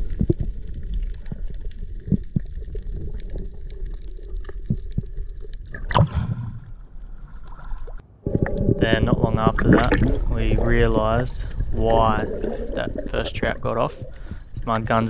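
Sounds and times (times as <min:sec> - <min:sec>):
water splashing: 0:00.0 - 0:14.5
clicks and gurgles: 0:00.0 - 0:14.6
underwater rumble: 0:00.0 - 0:15.0.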